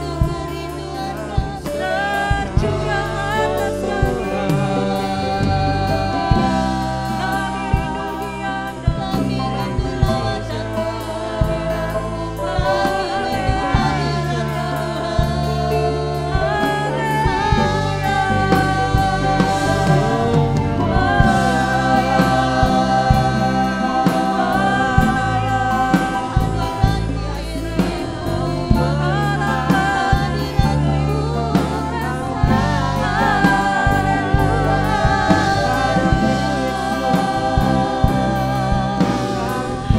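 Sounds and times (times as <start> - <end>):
band with bass and drums: 0.0 - 39.9
voices singing sustained notes: 0.0 - 39.9.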